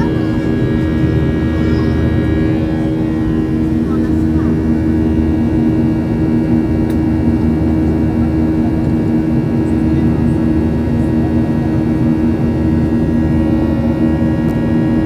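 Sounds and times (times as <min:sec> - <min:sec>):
jet engine drone in cabin: 0:00.0 - 0:15.0.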